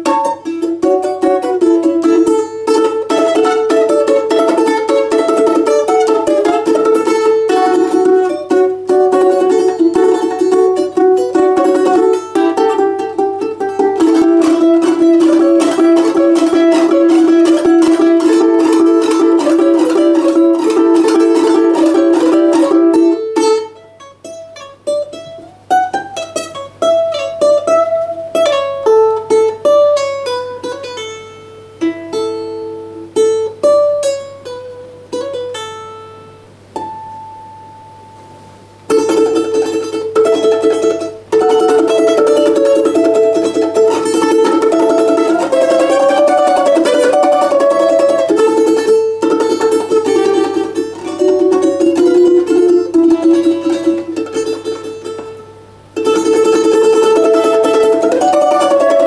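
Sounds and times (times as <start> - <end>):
balalaika playing: 0.0 - 59.0.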